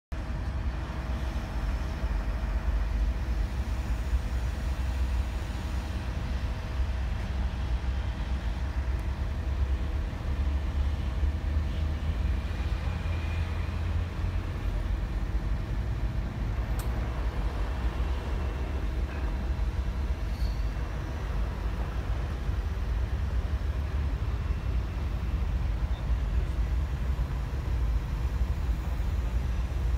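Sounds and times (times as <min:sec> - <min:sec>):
diesel engine low rumble: 0:00.1 - 0:29.9.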